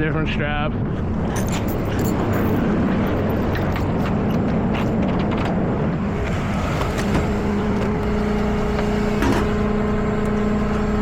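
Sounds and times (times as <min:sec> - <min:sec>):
tow truck engine running: 0:01.1 - 0:11.0.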